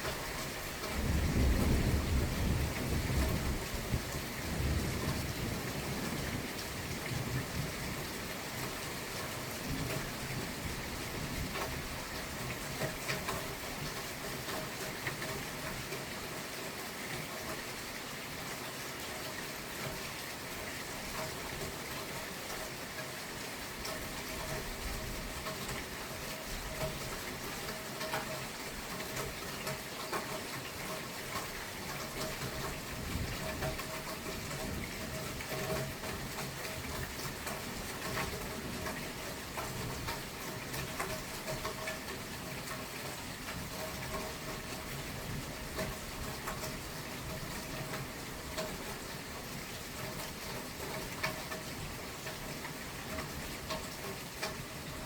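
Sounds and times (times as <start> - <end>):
raindrops tapping surfaces: 0.0 - 55.0.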